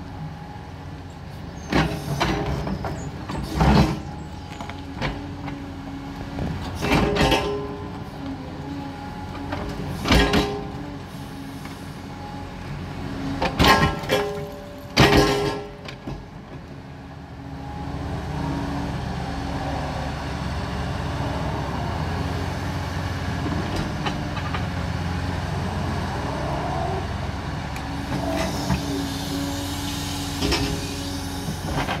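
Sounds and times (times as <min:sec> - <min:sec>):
excavator diesel engine: 0:00.0 - 0:32.0.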